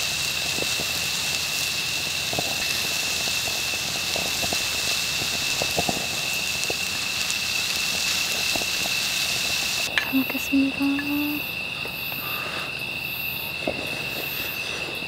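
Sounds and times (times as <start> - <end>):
crickets chirring: 0.0 - 15.0
small ticks and crackles: 0.0 - 15.0.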